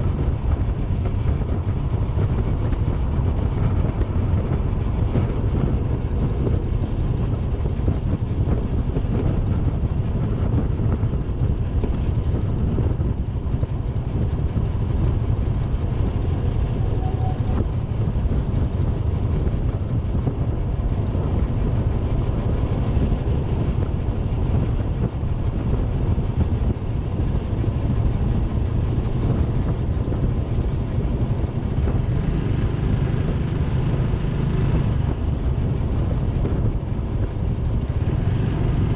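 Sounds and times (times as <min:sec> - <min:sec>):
motorcycle engine drone: 0:00.0 - 0:38.9
wind buffeting microphone: 0:00.0 - 0:38.9.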